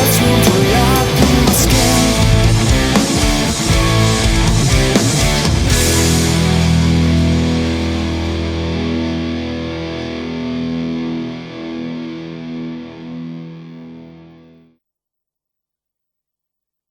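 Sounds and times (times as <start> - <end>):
distorted electric guitar chord: 0.0 - 14.7.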